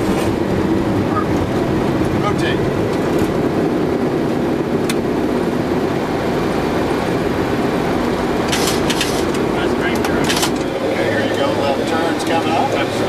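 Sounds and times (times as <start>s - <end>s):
jet engines and airflow rushing: 0.0s - 13.0s.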